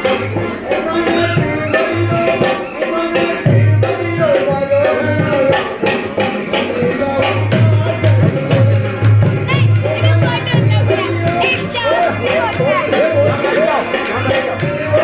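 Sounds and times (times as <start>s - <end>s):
hand drum beating rhythm: 0.0s - 15.0s.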